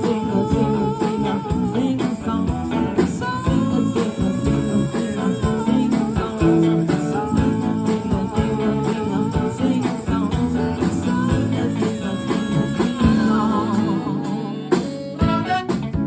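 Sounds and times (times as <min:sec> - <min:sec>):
band playing a song: 0:00.0 - 0:16.0.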